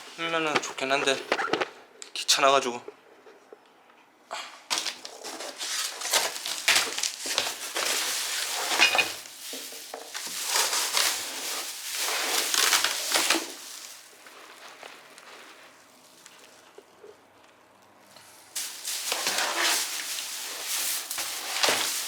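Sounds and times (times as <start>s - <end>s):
packaging crinkling and rustling: 0.0s - 1.8s, 4.7s - 16.9s, 18.1s - 22.0s.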